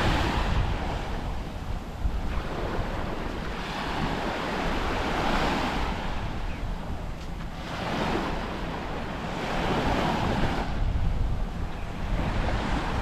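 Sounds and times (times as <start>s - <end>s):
waves breaking on beach: 0.0s - 11.4s, 12.0s - 13.0s
wind rumbling on microphone: 0.0s - 13.0s.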